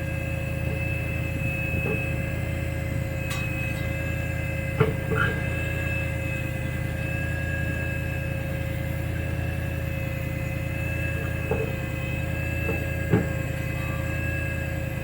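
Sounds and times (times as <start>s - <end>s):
motor idling with whine: 0.0s - 15.0s.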